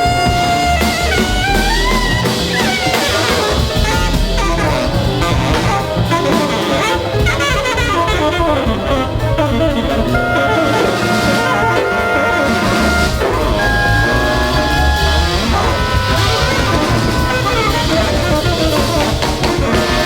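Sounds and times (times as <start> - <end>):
instrumental band music: 0.0 - 20.0.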